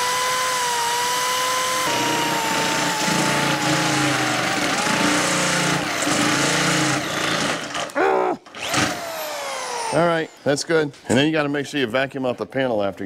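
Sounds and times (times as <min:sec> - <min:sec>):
electric drill cutting sheet steel: 0:00.0 - 0:10.6.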